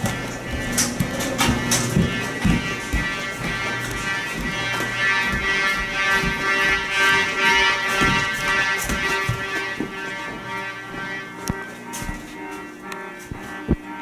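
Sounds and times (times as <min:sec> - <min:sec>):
fire alarm horns: 0:00.0 - 0:14.0.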